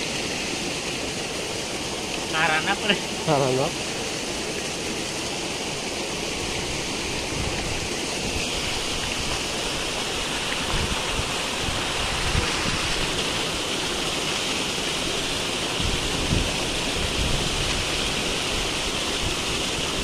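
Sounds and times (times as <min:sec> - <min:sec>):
stream water rushing and splashing: 0:00.0 - 0:20.0.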